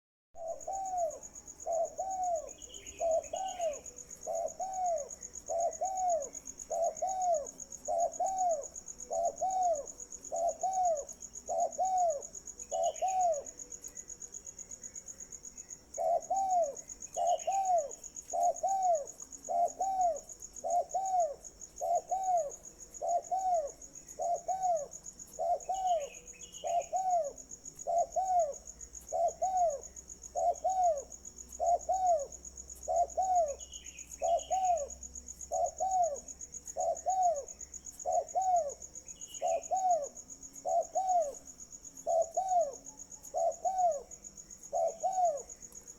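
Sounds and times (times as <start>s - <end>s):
bird low arched call: 0.4s - 13.6s, 16.0s - 29.8s, 30.4s - 32.3s, 32.9s - 41.4s, 44.7s - 45.5s
crickets trilling: 0.4s - 45.9s.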